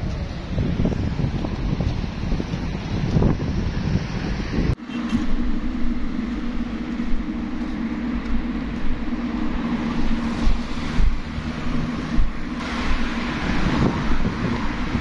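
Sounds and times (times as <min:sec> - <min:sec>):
vehicle engine and road rumble: 0:00.0 - 0:15.0
wind-like noise: 0:00.0 - 0:15.0.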